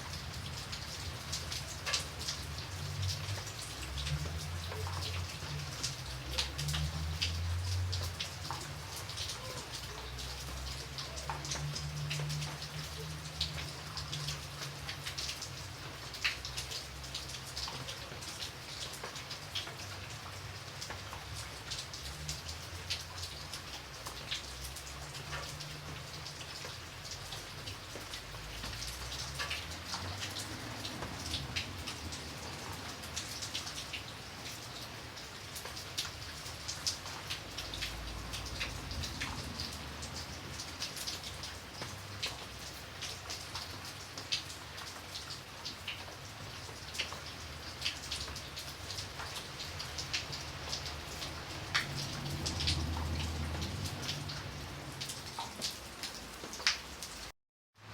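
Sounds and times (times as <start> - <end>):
raindrops ticking sharply: 0.0 - 57.3
steady rain falling: 0.0 - 57.9.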